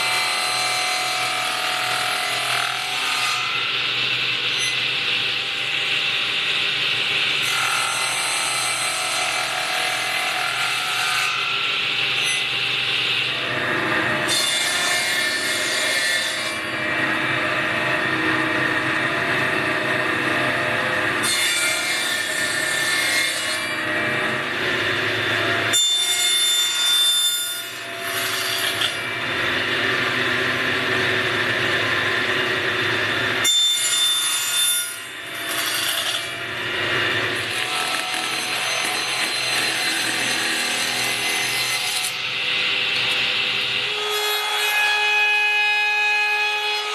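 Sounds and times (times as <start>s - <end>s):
table saw cutting wood: 0.0s - 46.9s.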